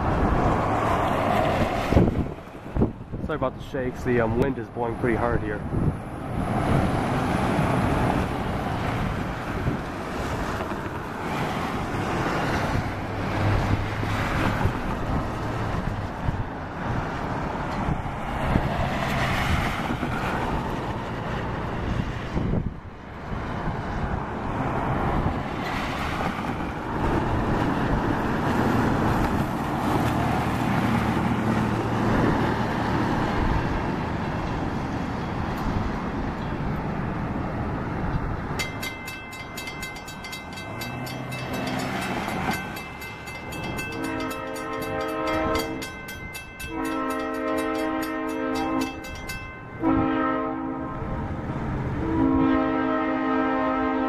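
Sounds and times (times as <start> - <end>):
gusty wind buffeting microphone: 0.0 - 52.7.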